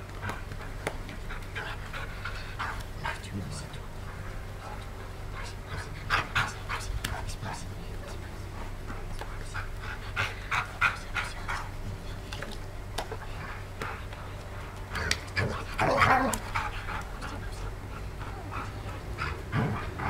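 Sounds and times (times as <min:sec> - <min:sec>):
dog panting: 0:00.0 - 0:20.0
dog vocal sound: 0:00.2 - 0:20.0.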